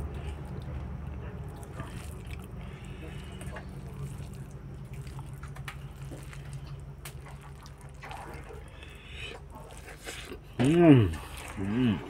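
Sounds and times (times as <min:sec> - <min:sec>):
fingers squishing wet rice: 0:00.0 - 0:12.0
steady low hum: 0:00.0 - 0:12.0.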